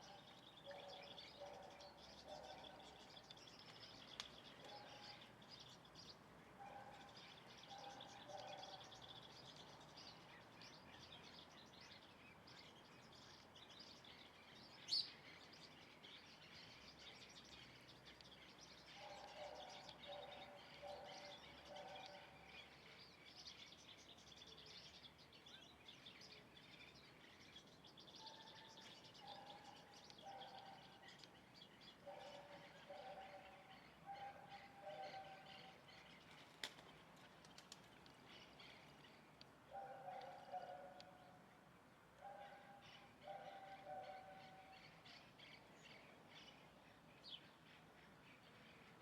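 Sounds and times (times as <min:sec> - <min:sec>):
lower repeated bird calls: 0:00.0 - 0:49.0
small birds chirping: 0:00.0 - 0:49.0.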